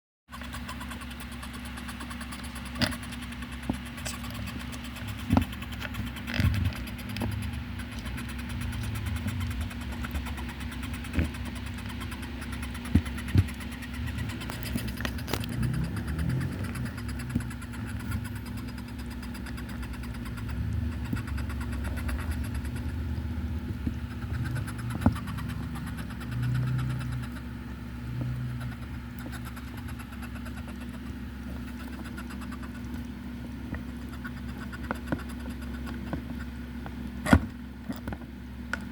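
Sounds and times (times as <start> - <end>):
hermit crab chirping: 0.3 - 36.7
steady low hum: 0.3 - 38.9.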